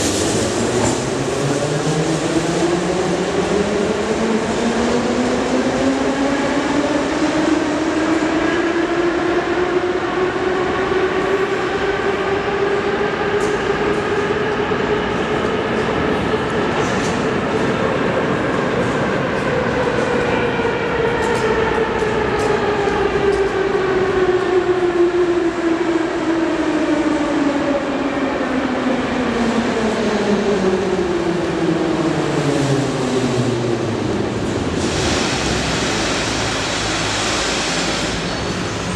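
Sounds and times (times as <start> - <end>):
metro train whine: 0.0 - 38.9.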